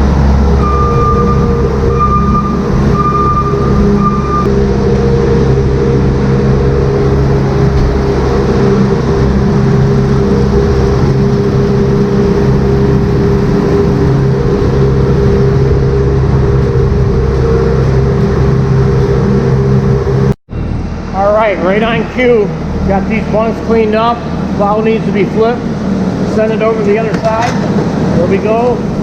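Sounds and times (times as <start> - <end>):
tractor engine droning: 0.0 - 29.0.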